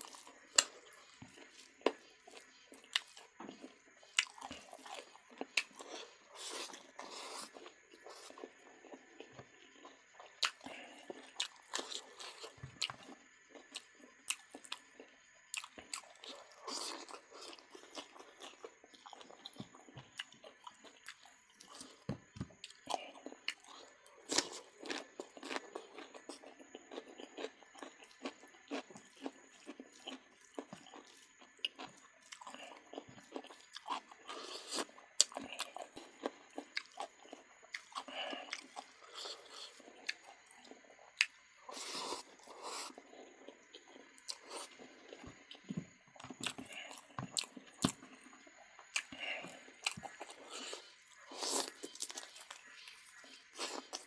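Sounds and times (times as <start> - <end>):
person chewing and crunching: 0.0 - 54.0.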